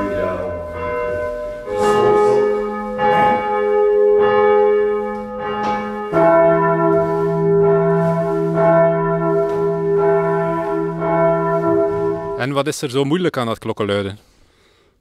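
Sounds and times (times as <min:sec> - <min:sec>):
deeper bell ringing: 0:00.0 - 0:12.7
church bells pealing: 0:00.0 - 0:12.8.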